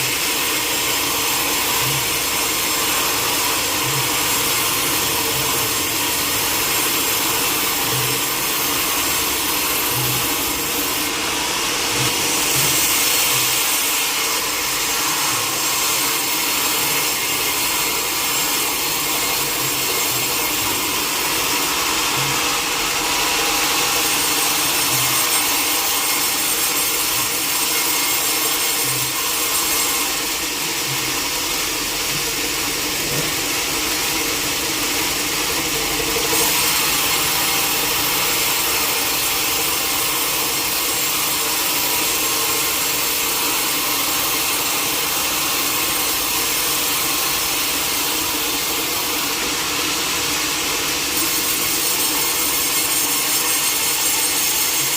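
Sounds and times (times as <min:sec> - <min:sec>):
sawmill saw cutting log: 0:00.0 - 0:54.9.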